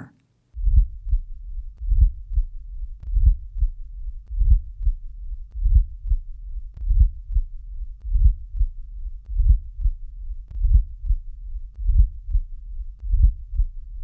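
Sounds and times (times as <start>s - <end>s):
heartbeat: 0.6s - 14.0s
low-pitched heart murmur rumble: 0.6s - 14.0s.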